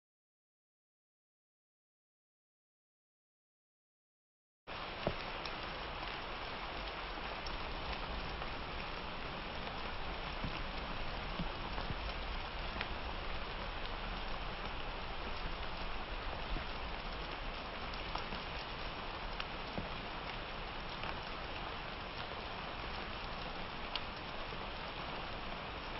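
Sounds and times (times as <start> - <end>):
raindrops ticking on surfaces: 4.7 - 25.9
steady rain falling: 4.7 - 25.9.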